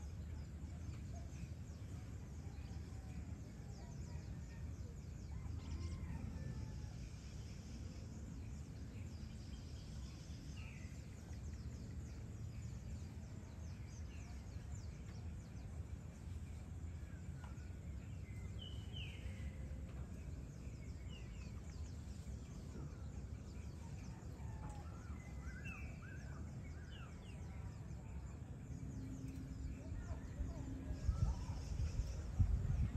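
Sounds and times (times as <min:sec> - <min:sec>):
faint high chirping: 0:00.0 - 0:32.9
low background rumble: 0:00.0 - 0:32.9.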